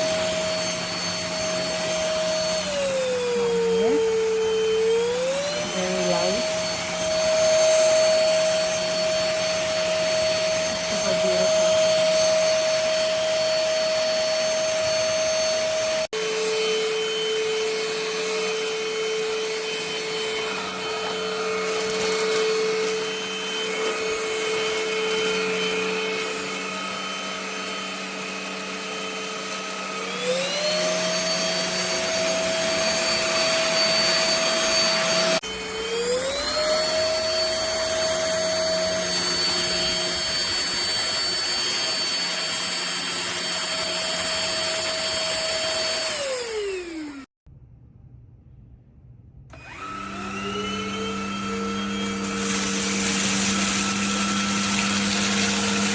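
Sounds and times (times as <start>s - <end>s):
stick vacuum motor whining: 0.0s - 47.3s, 49.5s - 55.9s.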